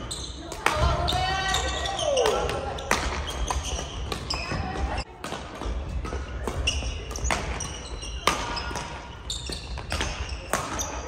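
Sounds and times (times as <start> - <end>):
sneakers squeaking on wooden floor: 0.0 - 5.1, 5.7 - 11.0
racket hitting shuttlecock: 0.4 - 11.0.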